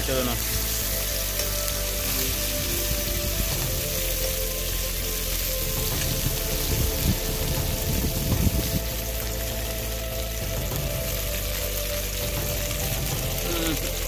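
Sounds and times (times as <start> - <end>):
fish frying in a pan: 0.0 - 14.0.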